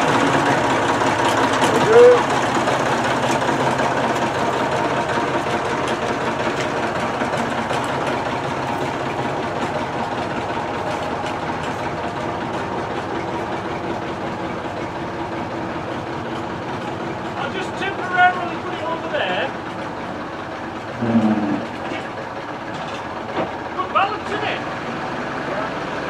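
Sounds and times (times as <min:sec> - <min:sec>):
forklift engine running: 0:00.0 - 0:26.0.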